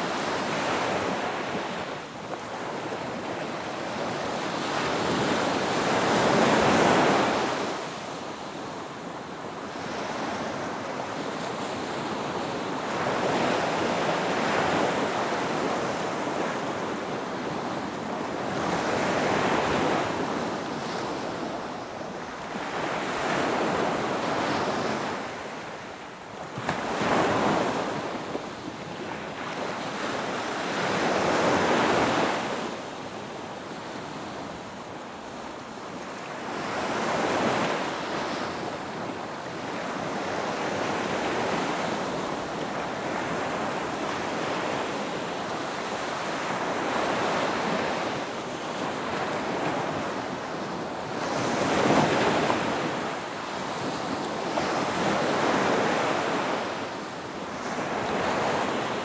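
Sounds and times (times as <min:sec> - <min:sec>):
ocean waves breaking on a beach: 0:00.0 - 0:59.0
wind: 0:00.0 - 0:59.0.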